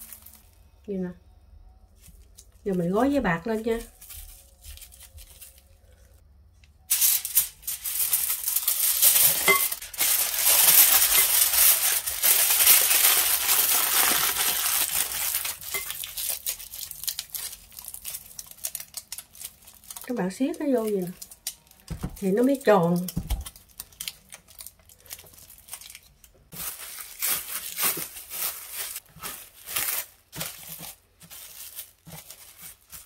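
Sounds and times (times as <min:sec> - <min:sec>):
aluminium foil crinkling: 0:00.0 - 0:00.7, 0:01.9 - 0:06.2, 0:06.8 - 0:33.0.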